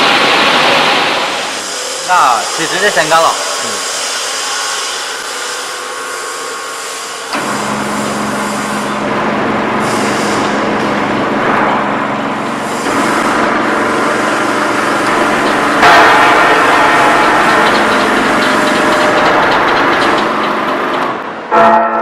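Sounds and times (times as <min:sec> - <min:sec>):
saw machine running: 0:00.0 - 0:21.5
steady hum: 0:00.0 - 0:21.5.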